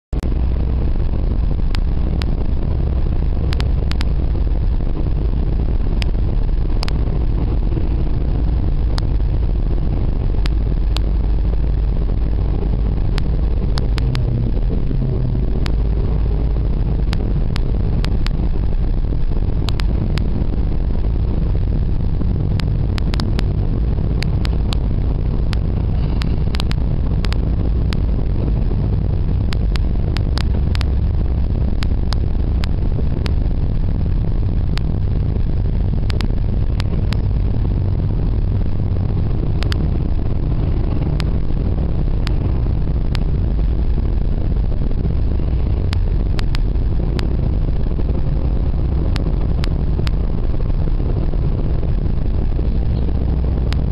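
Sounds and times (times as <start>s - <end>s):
vehicle engine and road rumble: 0.0s - 53.9s.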